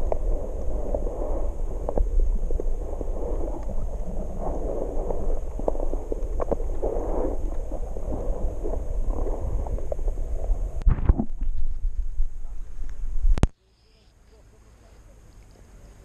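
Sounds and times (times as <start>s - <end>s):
muffled underwater rumble: 0.0s - 13.5s.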